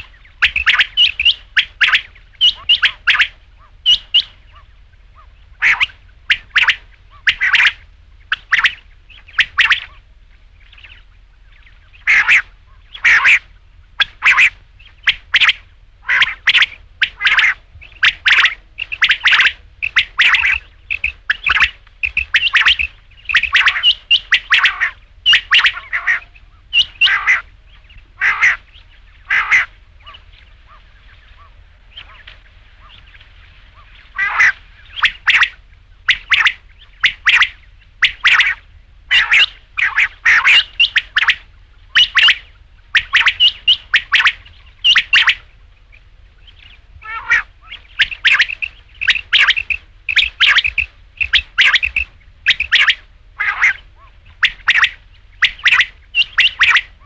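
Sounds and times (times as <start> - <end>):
faint low hum: 0.0 - 57.0
quail calling: 0.0 - 57.0.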